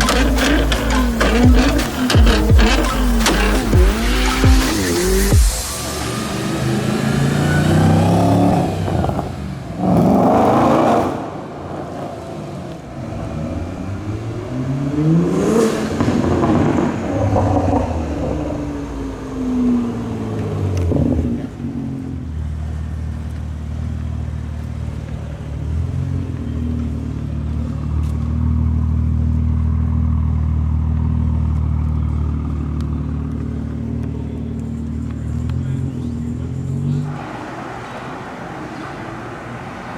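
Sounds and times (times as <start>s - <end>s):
car engines revving: 0.0s - 39.9s
car passing: 0.0s - 39.9s.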